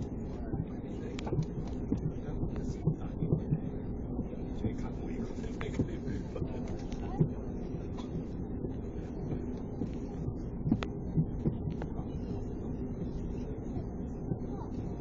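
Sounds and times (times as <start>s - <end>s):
idling jet engines rumble: 0.0s - 15.0s.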